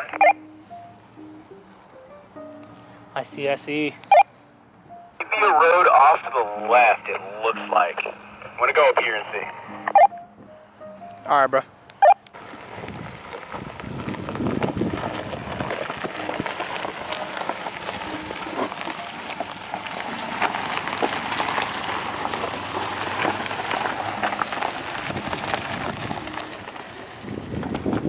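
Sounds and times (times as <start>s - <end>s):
gravel crunching: 4.9s - 28.0s.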